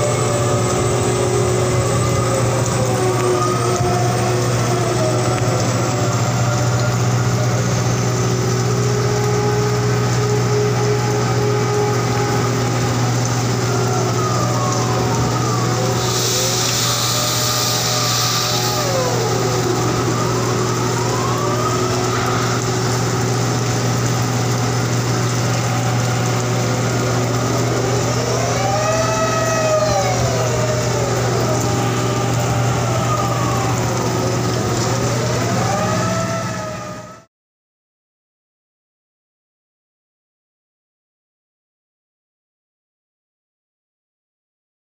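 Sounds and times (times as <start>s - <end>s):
crane machinery drone: 0.0s - 37.3s
whining machinery tones: 0.0s - 37.3s.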